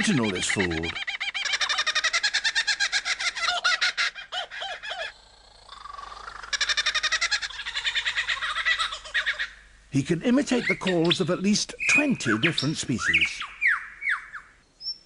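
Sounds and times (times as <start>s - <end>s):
lyrebird singing: 0.0s - 15.0s.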